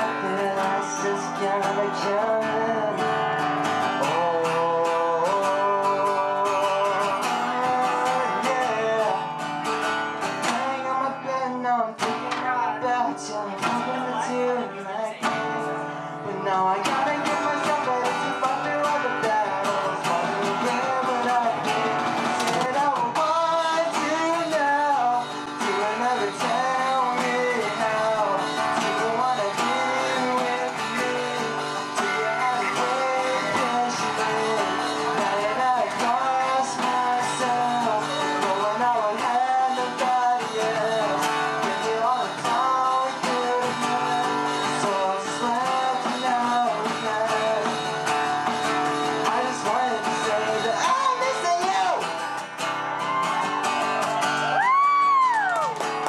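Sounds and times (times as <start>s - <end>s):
man singing: 0.0s - 52.4s
strummed acoustic guitar: 0.0s - 56.0s.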